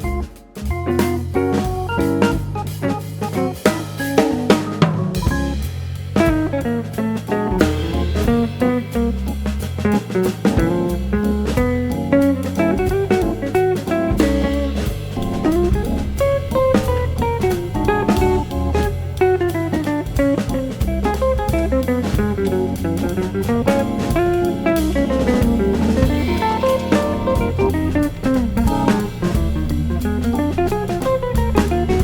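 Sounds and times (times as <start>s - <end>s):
guitar-led instrumental music: 0.0s - 32.0s.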